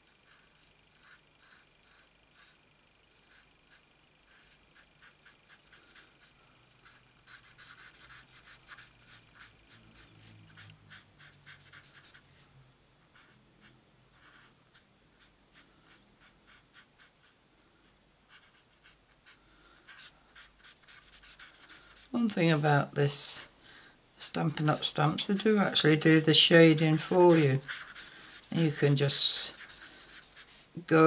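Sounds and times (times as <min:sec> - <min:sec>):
marker scratching on cardstock: 0:00.2 - 0:12.2, 0:13.1 - 0:17.4, 0:18.3 - 0:22.3, 0:24.6 - 0:30.6.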